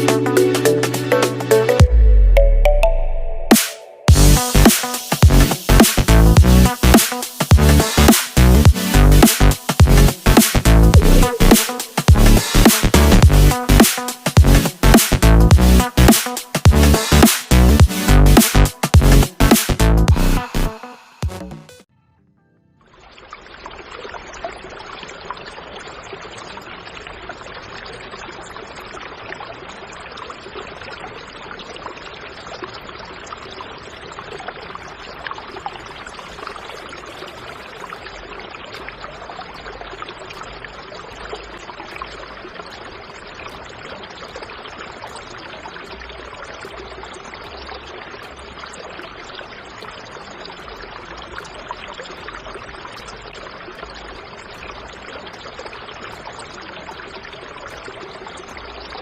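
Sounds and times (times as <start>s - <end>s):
water pouring: 4.1s - 18.3s, 22.8s - 59.0s.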